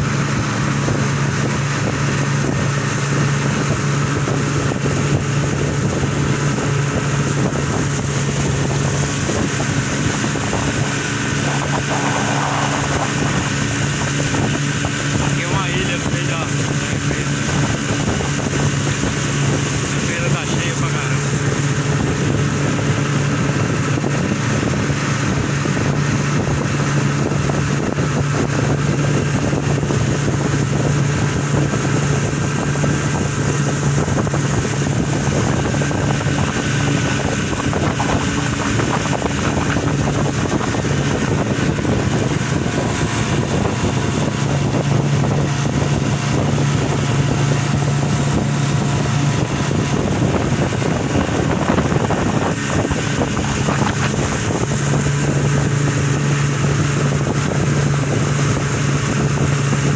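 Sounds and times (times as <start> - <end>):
outboard motor droning: 0.0 - 59.9
wind noise on microphone: 0.0 - 59.9.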